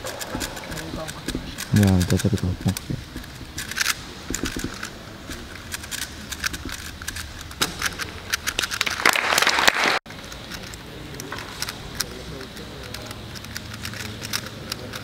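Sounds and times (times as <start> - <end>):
puzzle cube plastic clicks: 0.0 - 15.0.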